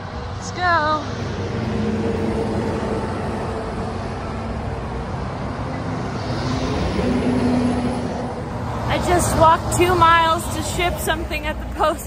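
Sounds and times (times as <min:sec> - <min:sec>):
cars going by: 0:00.0 - 0:12.0.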